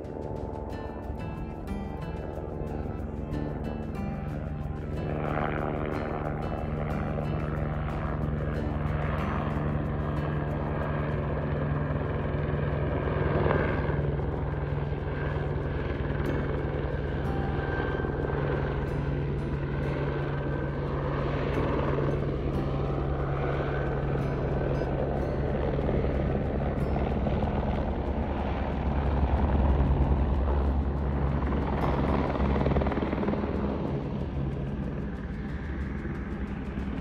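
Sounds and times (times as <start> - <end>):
steady low engine drone: 0.0 - 37.0.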